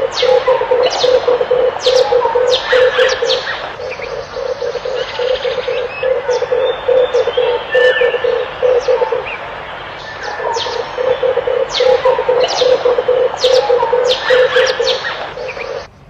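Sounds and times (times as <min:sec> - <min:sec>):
dove cooing: 0:00.0 - 0:15.9
small birds chirping: 0:00.0 - 0:15.9.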